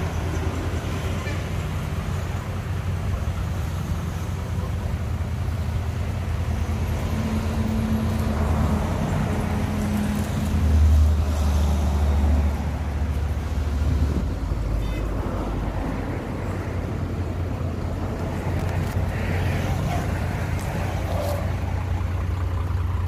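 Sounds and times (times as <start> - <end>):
diesel truck rumble: 0.0 - 23.0
road traffic passing: 0.0 - 23.0.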